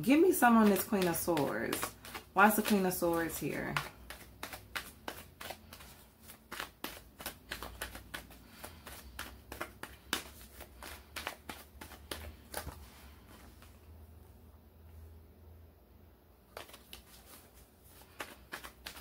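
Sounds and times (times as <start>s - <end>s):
cards being shuffled: 0.1s - 13.9s, 16.5s - 19.0s.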